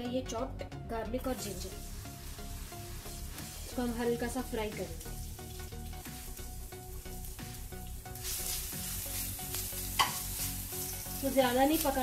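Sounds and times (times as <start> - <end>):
garlic sizzling in hot oil: 1.3 - 12.0.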